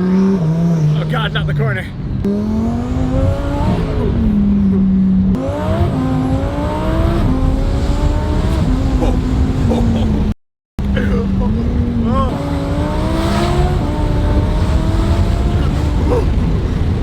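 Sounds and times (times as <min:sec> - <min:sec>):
car engine accelerating hard: 0:02.2 - 0:17.0.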